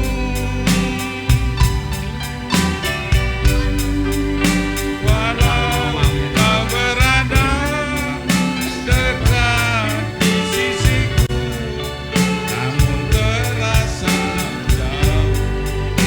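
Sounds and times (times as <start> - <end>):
steady drum strokes: 0.0 - 16.0.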